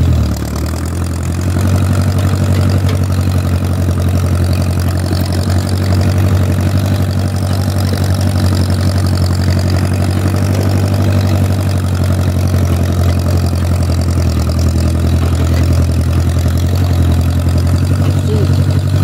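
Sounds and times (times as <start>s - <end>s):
tractor engine running steadily: 0.0s - 19.0s.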